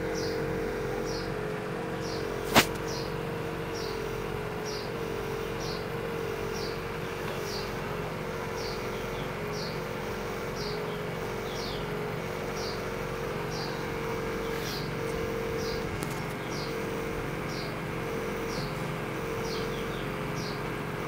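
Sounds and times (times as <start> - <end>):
aquarium pump humming: 0.0 - 21.0.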